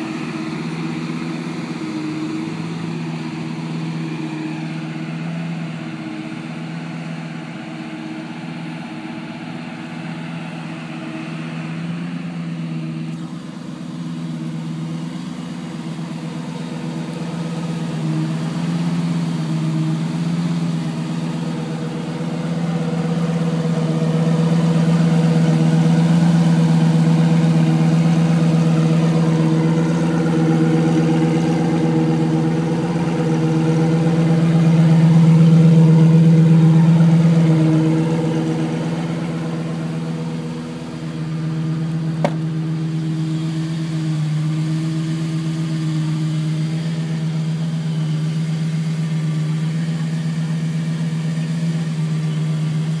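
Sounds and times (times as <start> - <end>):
sports car engine idling: 0.0 - 53.0.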